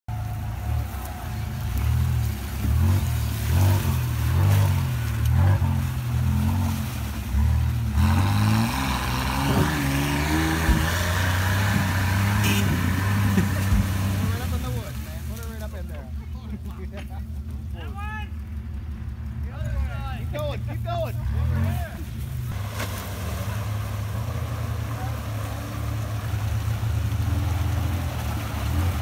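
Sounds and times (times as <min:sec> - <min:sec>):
buggy engine revving: 0:00.0 - 0:29.0
tires churning through mud: 0:00.1 - 0:29.0.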